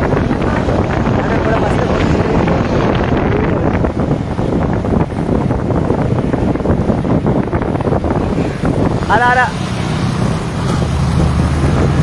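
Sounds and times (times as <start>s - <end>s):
motorcycle engines running: 0.0s - 12.0s
road noise: 0.0s - 12.0s
wind buffeting microphone: 0.0s - 12.0s.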